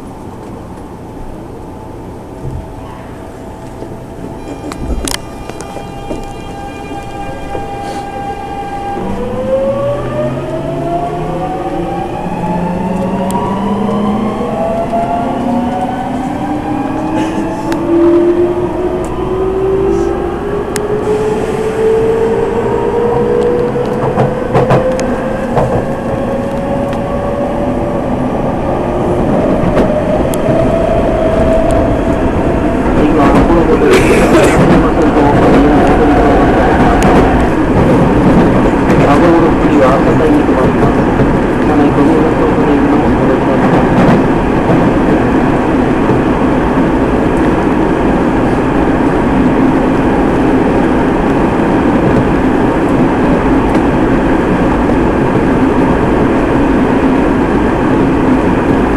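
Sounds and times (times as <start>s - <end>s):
train running noise: 0.0s - 58.9s.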